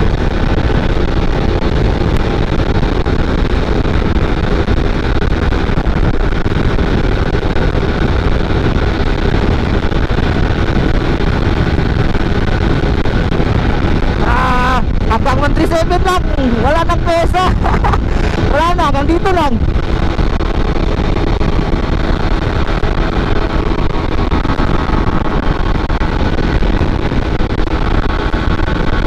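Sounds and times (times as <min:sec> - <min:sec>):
motorcycle engine running: 0:00.0 - 0:29.0
wind noise on microphone: 0:00.0 - 0:29.0.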